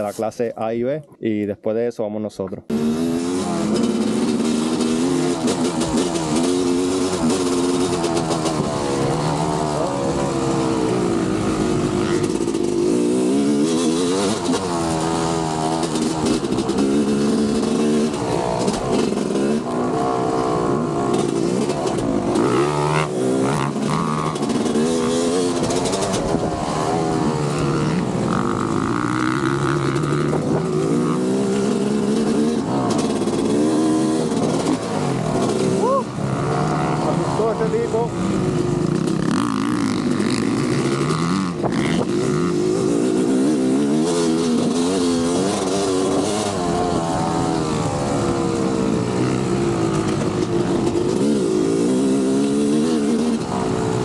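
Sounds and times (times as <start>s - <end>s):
motocross bike engines revving: 2.6s - 54.0s.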